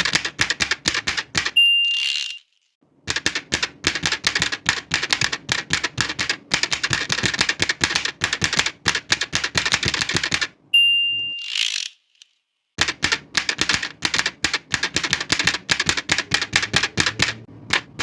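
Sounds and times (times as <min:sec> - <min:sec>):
manual typewriter typing: 0:00.0 - 0:02.4, 0:03.1 - 0:10.5, 0:12.8 - 0:18.0
typewriter carriage return: 0:00.0 - 0:02.4, 0:03.1 - 0:10.5, 0:12.8 - 0:18.0.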